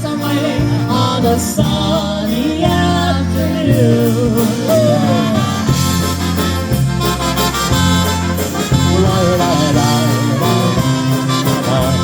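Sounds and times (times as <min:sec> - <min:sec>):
polka band playing: 0:00.0 - 0:12.0.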